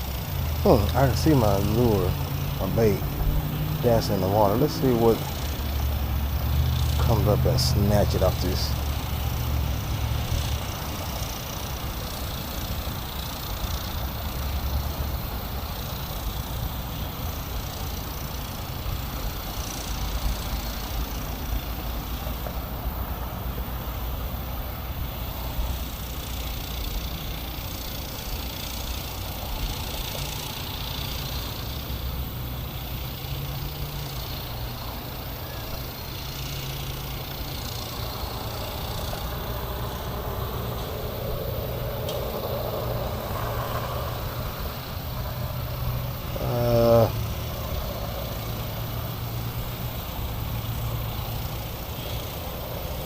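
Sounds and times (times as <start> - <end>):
vehicle engines rumbling: 0.0 - 53.0.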